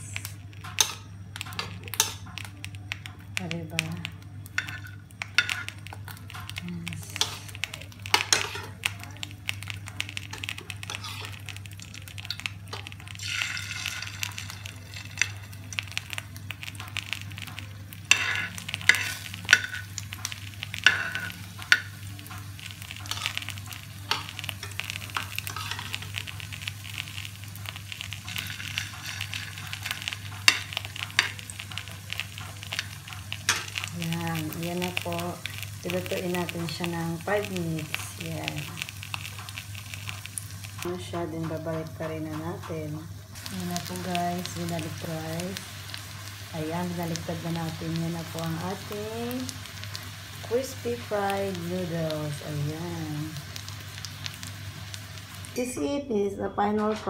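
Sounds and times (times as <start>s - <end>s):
oil crackling and popping: 0.0s - 55.6s
noodle patty sizzling in oil: 0.0s - 56.0s.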